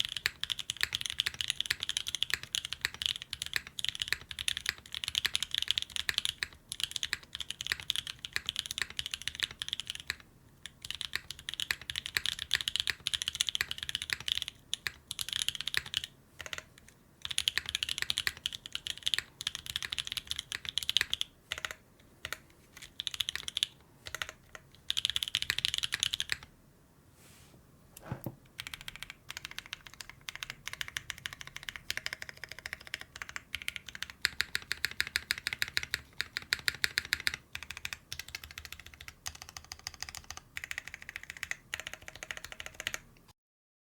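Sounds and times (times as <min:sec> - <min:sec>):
mechanical keyboard typing: 0:00.0 - 0:26.5, 0:28.2 - 0:43.1.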